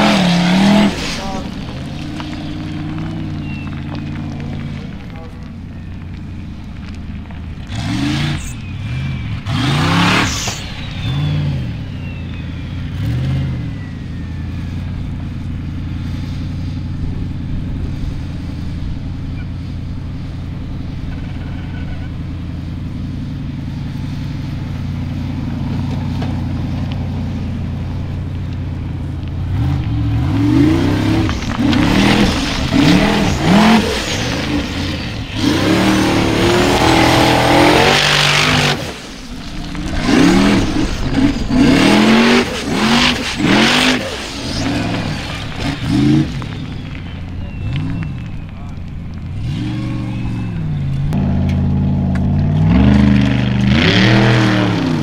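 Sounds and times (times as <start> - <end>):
engine revving: 0.0 - 5.5, 6.8 - 19.8, 20.7 - 55.0
car engine idling: 0.0 - 54.4.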